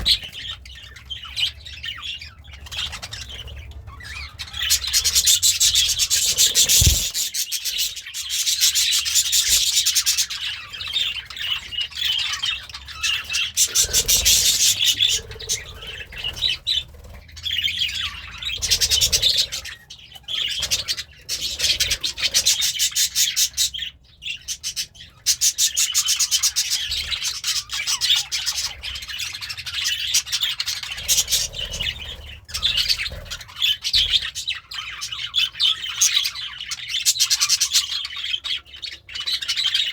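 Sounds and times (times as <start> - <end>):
budgerigar warbling and chattering: 0.0 - 39.9.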